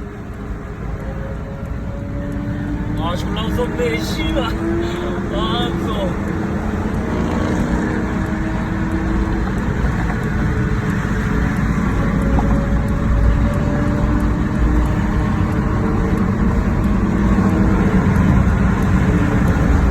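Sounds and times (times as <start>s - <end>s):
motorcycles engine and road rumble: 0.0s - 19.9s.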